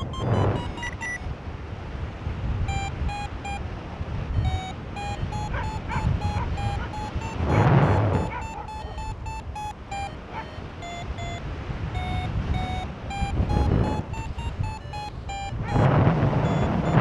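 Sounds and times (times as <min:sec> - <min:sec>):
variometer short beeps: 0:00.0 - 0:01.3, 0:02.6 - 0:03.7, 0:04.3 - 0:17.0
wind gusting over microphone: 0:00.0 - 0:17.0.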